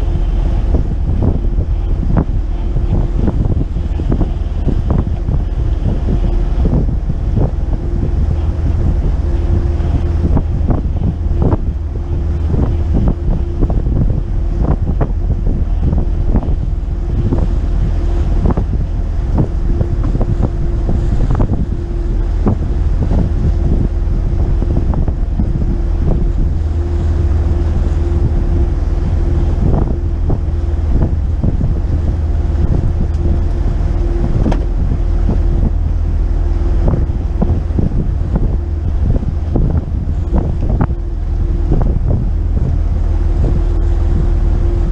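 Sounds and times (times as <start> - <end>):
boat engine drone: 0.0 - 44.9
water rushing past hull: 0.0 - 44.9
wind buffeting microphone: 0.0 - 44.9.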